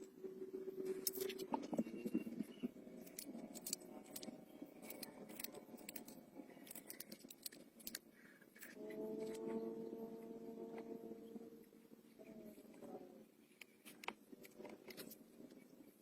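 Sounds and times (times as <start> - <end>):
steady multi-tone hum: 0.0 - 16.0.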